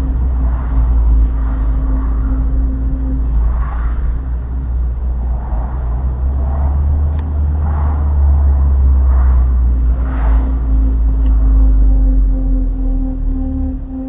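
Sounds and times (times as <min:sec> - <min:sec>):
car rolling with low rumble: 0:00.0 - 0:14.0
recurring car noise: 0:00.0 - 0:14.0.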